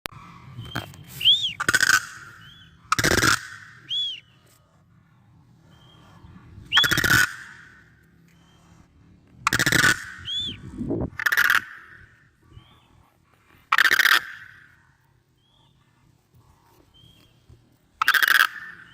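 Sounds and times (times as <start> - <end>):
cranes calling: 0.2 - 18.9.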